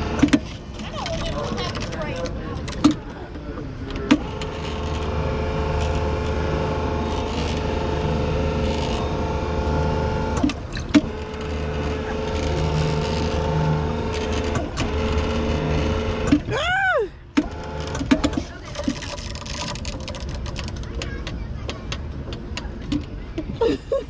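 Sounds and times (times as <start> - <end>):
small boat motor humming: 0.0 - 24.0.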